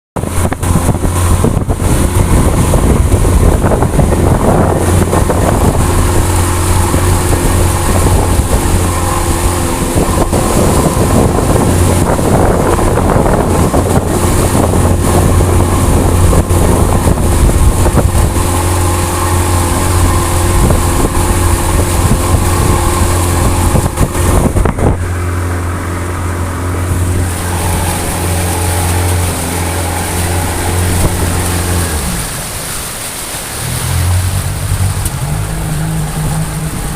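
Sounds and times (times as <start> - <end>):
wind buffeting microphone: 0.2 - 32.8, 33.6 - 36.9
vehicle engine humming: 0.2 - 36.9.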